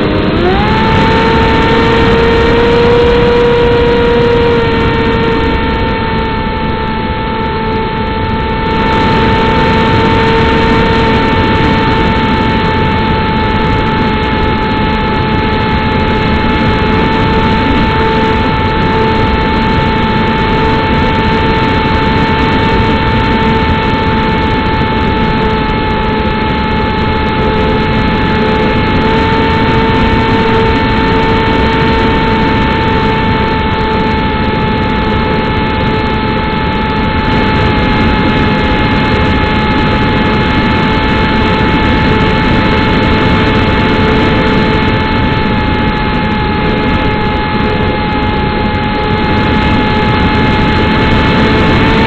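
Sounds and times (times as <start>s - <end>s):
loud rush of noise: 0.0s - 52.0s
model plane motor whine: 0.0s - 52.0s.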